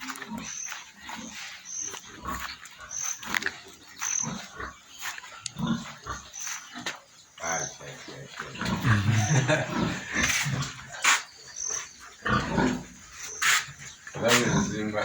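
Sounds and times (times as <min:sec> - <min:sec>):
pigs grunting and squealing: 0:00.0 - 0:15.0.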